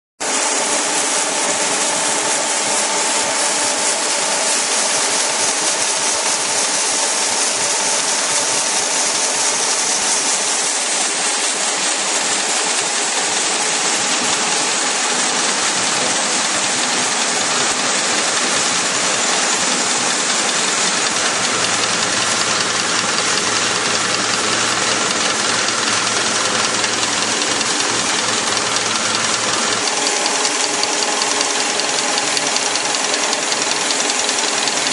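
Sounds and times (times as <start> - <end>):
motors and rollers din: 0.2 - 34.9.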